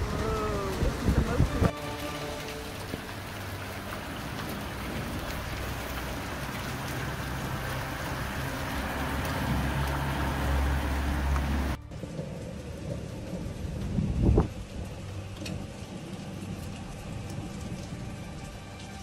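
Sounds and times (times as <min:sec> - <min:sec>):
hail on van roof: 0:00.0 - 0:19.0
low rumble: 0:00.0 - 0:19.0
rain falling: 0:00.0 - 0:19.0.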